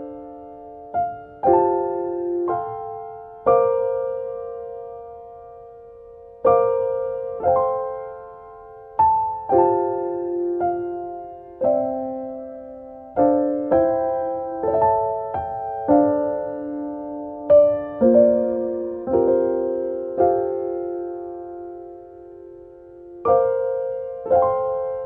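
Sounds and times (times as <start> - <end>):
slow solo piano music: 0.0 - 25.0.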